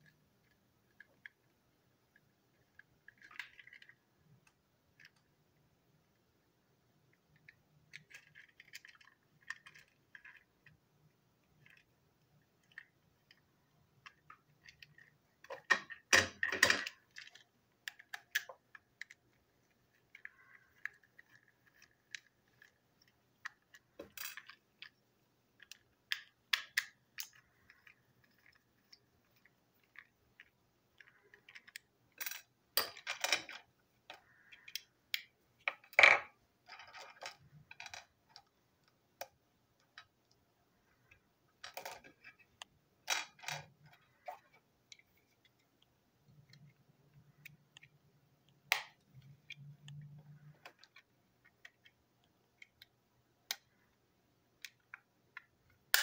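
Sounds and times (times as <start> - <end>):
plastic toy parts clicking: 7.0 - 56.0.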